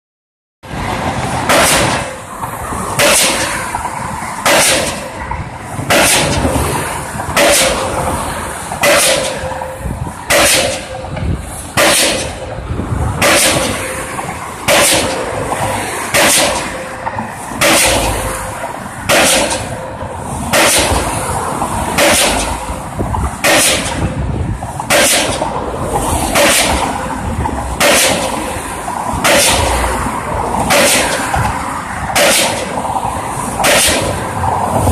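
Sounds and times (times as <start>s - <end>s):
pile driver hammer banging: 1.4s - 32.8s, 33.6s - 34.9s.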